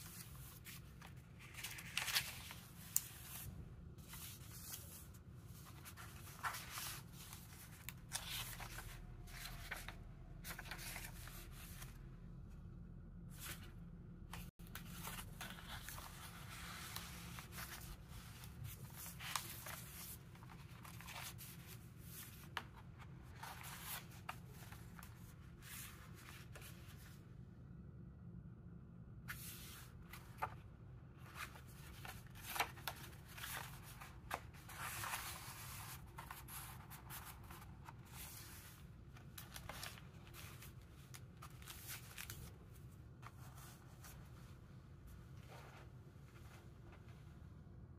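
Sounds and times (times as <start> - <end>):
paper pages rustling: 0.0 - 12.0, 14.3 - 27.1, 29.3 - 44.5
low steady hum: 0.0 - 47.9.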